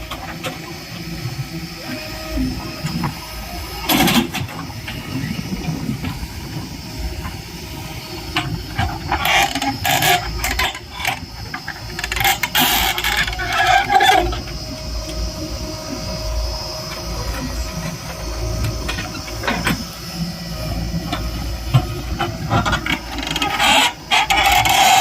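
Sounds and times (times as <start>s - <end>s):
diesel machinery engine rumble: 0.0s - 25.0s.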